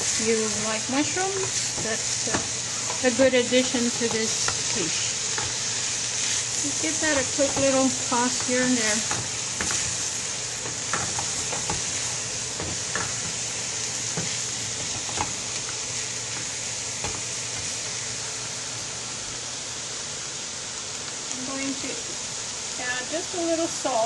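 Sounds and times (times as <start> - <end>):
vegetables sizzling in a skillet: 0.0 - 24.0.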